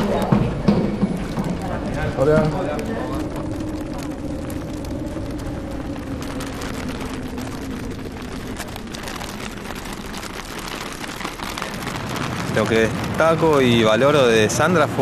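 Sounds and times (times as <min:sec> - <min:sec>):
engine hum: 0:00.0 - 0:15.0
traffic rumble: 0:00.0 - 0:15.0.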